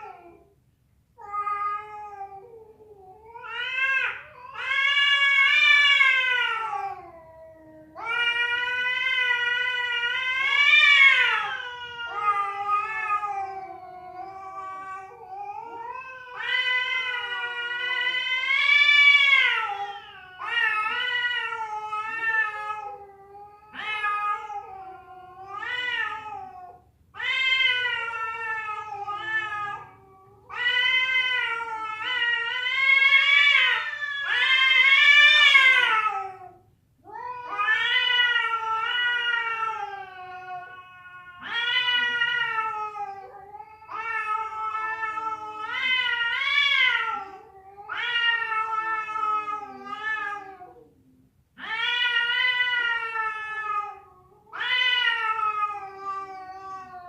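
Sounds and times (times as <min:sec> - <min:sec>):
cat yowling: 0:01.2 - 0:50.9, 0:51.6 - 0:57.0.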